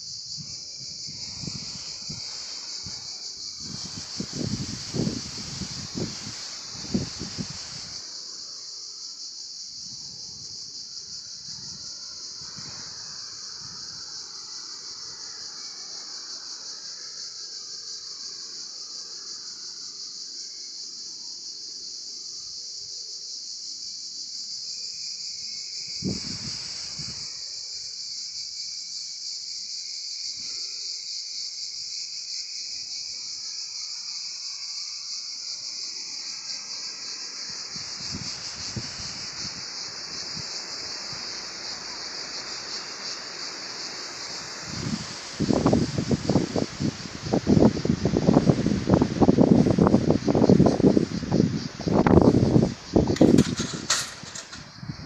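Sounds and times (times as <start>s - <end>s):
wind rustling leaves: 0.0s - 30.2s, 31.1s - 55.0s
insect chorus buzzing: 0.0s - 55.0s.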